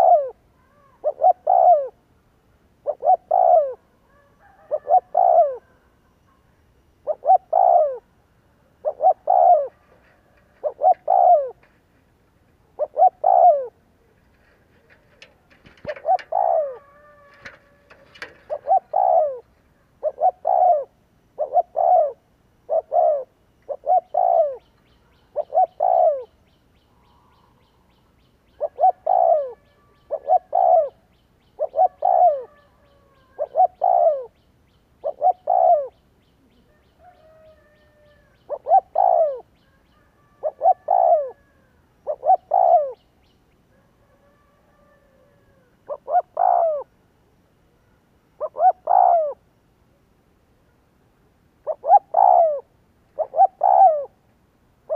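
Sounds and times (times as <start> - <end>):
dove cooing: 0.0 - 2.1, 2.8 - 26.4, 27.0 - 34.4, 35.0 - 43.0, 43.7 - 47.0, 48.4 - 49.5, 51.6 - 54.2.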